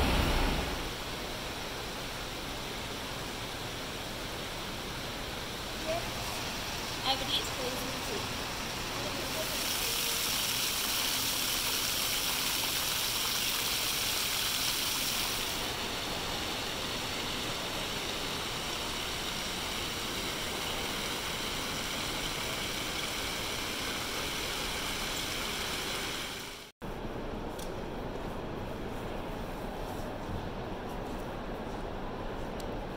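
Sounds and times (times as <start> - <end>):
indoor water fountain splashing: 0.0 - 26.7.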